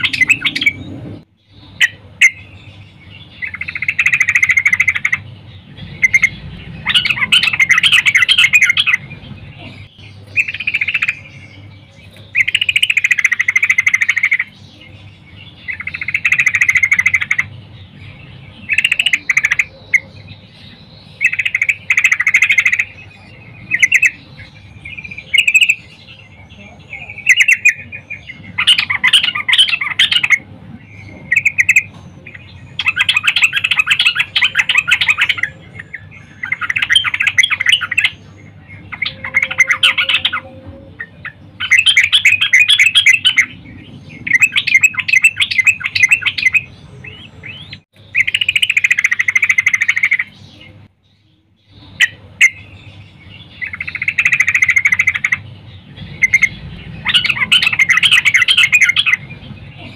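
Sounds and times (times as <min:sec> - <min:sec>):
bird singing bubbly phrases: 0:00.0 - 0:59.9.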